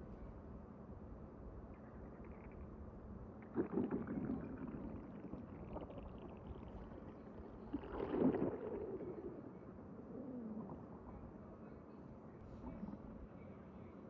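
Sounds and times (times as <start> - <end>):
stomach rumbling and gurgling: 1.4 - 13.7.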